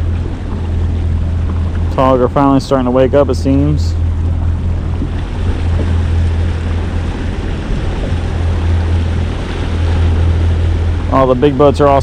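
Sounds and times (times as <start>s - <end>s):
small boat motor humming: 0.0s - 12.0s
water noise: 0.0s - 12.0s
wind: 0.0s - 12.0s.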